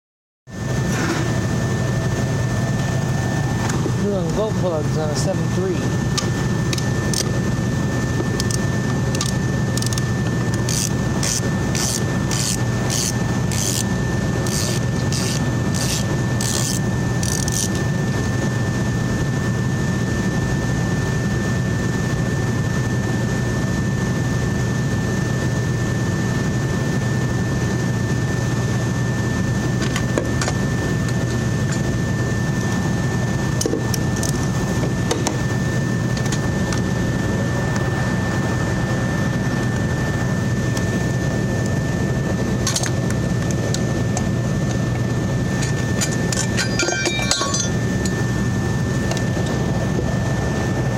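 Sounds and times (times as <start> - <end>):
machine hum with high whine: 0.5 - 50.9.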